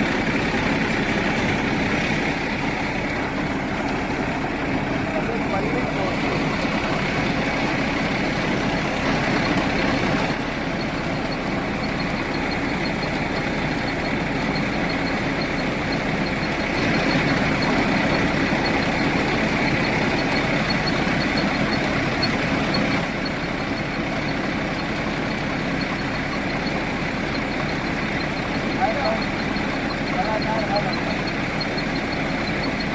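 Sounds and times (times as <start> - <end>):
rice milling machine drone: 0.0 - 32.9.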